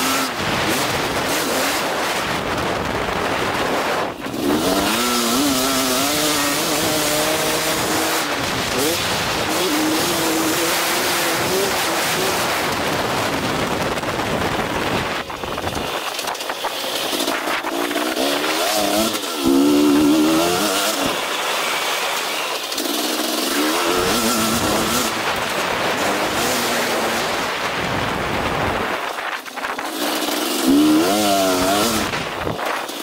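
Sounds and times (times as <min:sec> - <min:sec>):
wind rushing over microphone: 0:00.0 - 0:21.2, 0:23.7 - 0:29.8, 0:30.6 - 0:33.0
motocross engine revving: 0:00.0 - 0:33.0.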